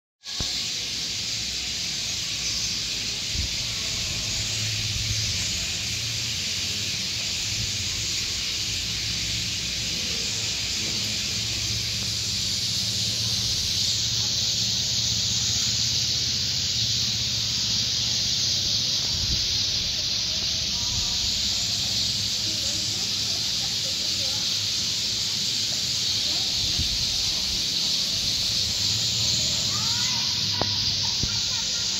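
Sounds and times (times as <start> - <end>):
flock of sparrows chirping: 0.3 - 31.9.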